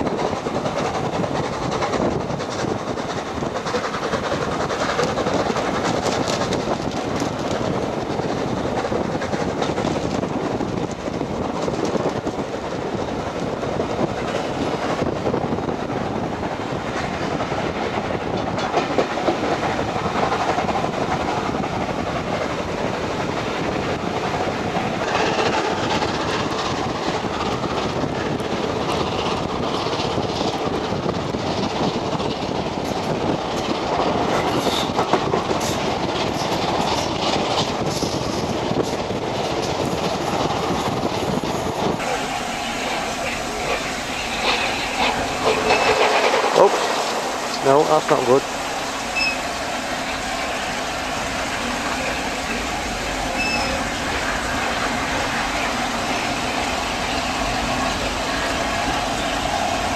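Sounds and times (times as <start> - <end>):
rumble of train coaches: 0.0 - 59.9
wheels clacking over rails: 0.0 - 59.9.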